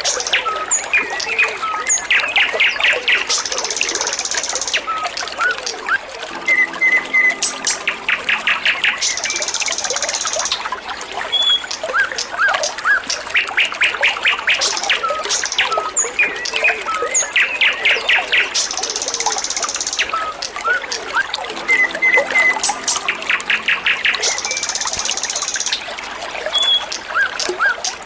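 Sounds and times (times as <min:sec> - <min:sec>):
songbird singing: 0:00.0 - 0:28.0
water trickling: 0:00.0 - 0:28.0.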